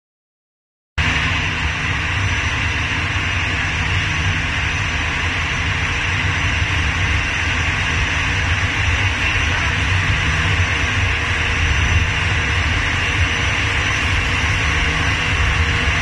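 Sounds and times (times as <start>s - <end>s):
jet engines rumbling and hissing: 1.0s - 16.0s.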